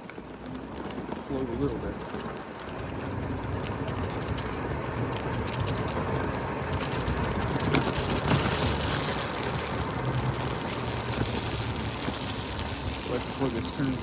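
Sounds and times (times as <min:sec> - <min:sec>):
small clicks and bumps: 0:00.0 - 0:14.0
wheels rumbling on path: 0:00.0 - 0:14.0
wind buffeting microphone: 0:00.3 - 0:14.0.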